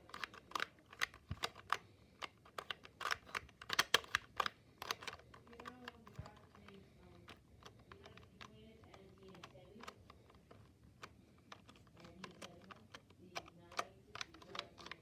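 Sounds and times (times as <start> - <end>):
plastic puzzle tiles clicking: 0.0 - 15.0.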